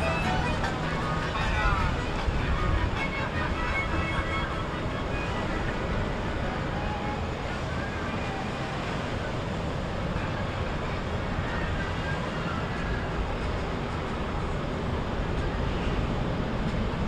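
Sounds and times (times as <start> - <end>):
boat engines rumbling: 0.0 - 17.0
faint voices: 0.0 - 17.0
water noise: 0.0 - 17.0
wind: 0.0 - 17.0.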